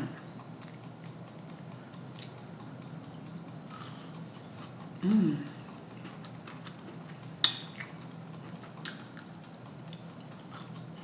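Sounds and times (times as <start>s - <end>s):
faint steady hum: 0.0s - 11.0s
person chewing crunchy food: 0.6s - 2.5s, 3.1s - 5.0s, 5.8s - 11.0s.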